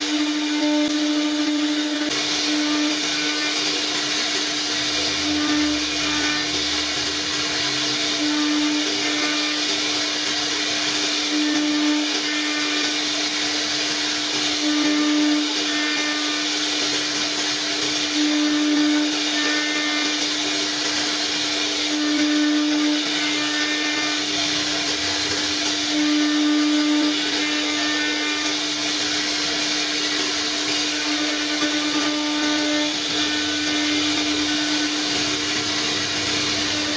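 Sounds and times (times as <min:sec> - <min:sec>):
router spindle cutting wood: 0:00.0 - 0:36.9.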